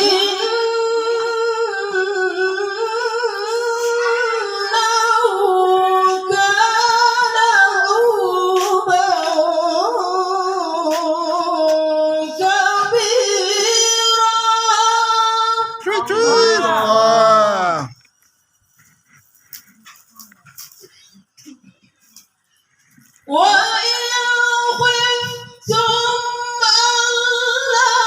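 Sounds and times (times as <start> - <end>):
woman reciting melodically: 0.0 - 17.9, 19.1 - 28.0.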